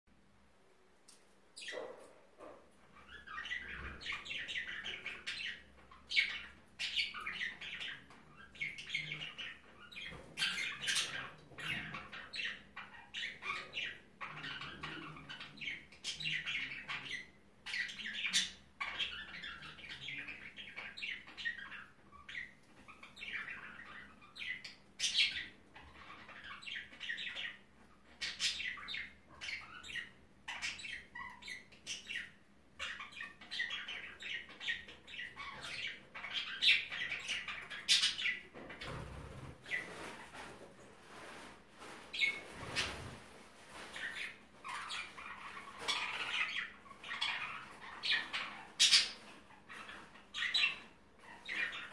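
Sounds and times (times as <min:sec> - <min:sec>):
budgerigar chirping and squawking: 0:01.6 - 0:40.1, 0:44.0 - 0:51.9.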